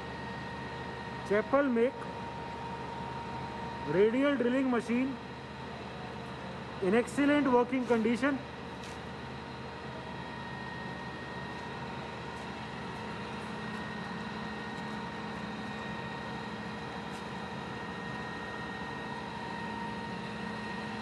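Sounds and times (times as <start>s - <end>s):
thin steady whine: 0.0s - 21.0s.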